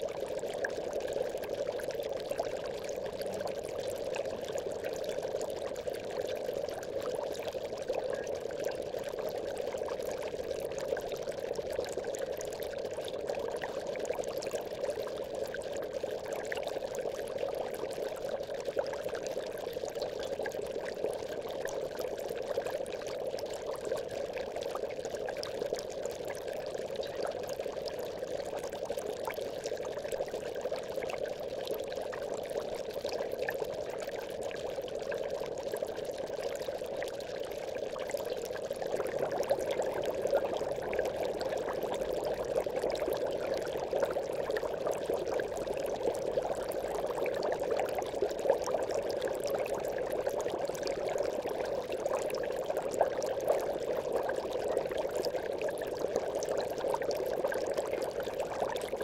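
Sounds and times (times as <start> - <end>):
aquarium air bubbling: 0.0 - 59.0.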